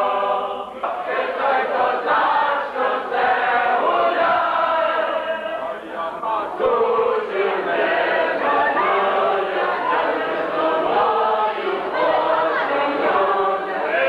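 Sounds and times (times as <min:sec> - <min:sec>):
group of people singing: 0:00.0 - 0:14.0.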